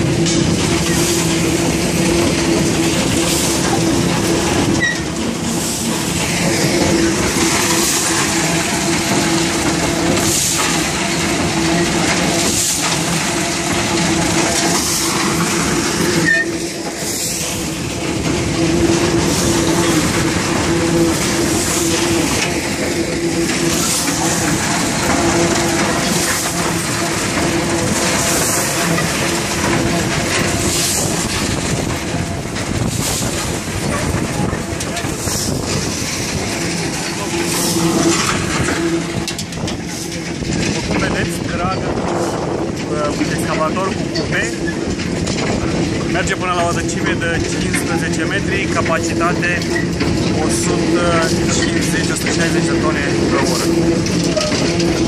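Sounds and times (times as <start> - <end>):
bucket chain clanking and rattling: 0.0 - 55.0
gravel pouring: 0.0 - 55.0.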